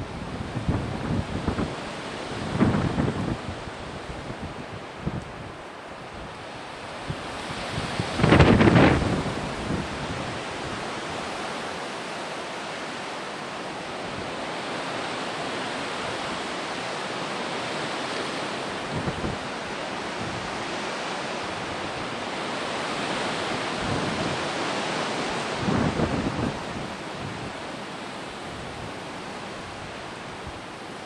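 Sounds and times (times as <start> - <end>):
wind on microphone: 0.0 - 12.1, 13.8 - 31.0.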